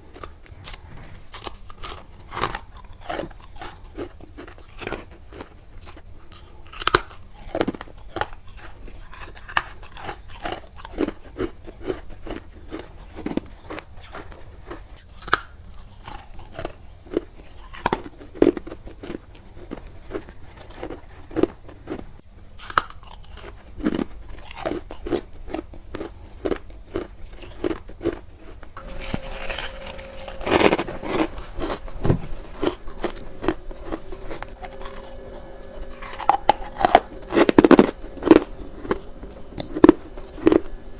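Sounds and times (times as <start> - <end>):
faint steady hum: 0.0 - 40.9
frost being chewed: 0.0 - 40.9.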